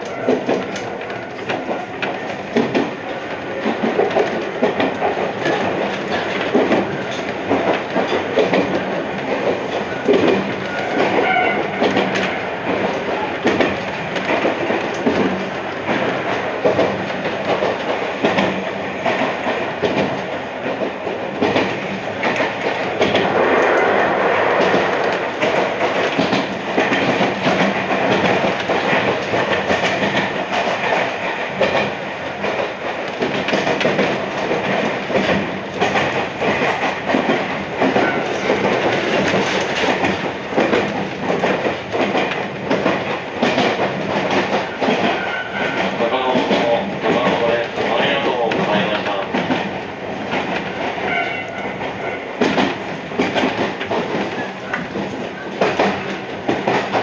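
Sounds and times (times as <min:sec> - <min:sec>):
rail joint clacks: 0:00.0 - 0:57.0
train wheels rumbling on rail: 0:00.0 - 0:57.0.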